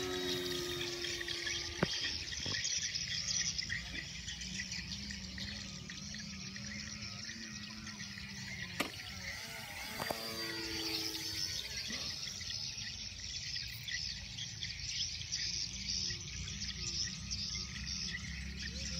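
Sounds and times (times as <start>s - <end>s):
distant airplane engine drone: 0.0s - 18.9s
insects hissing: 0.0s - 18.9s.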